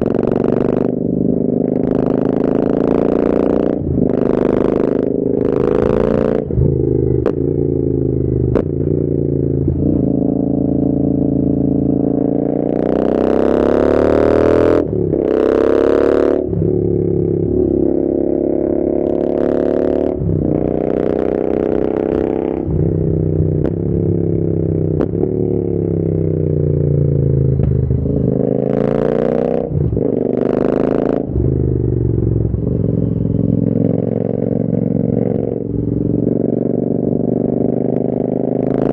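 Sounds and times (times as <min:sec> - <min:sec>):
motorcycle engine revving under load: 0:00.0 - 0:38.9.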